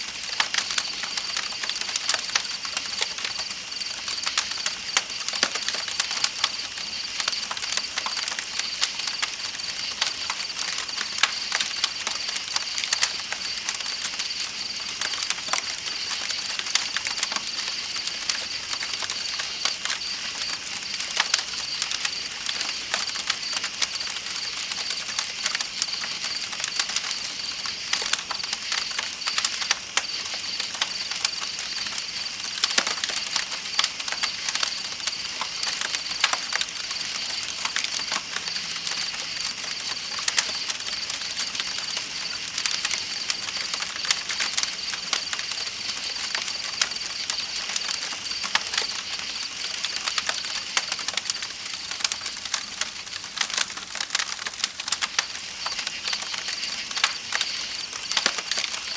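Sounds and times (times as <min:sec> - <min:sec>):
night insects chirring: 0:00.0 - 0:58.9
campfire crackling: 0:00.1 - 0:58.9.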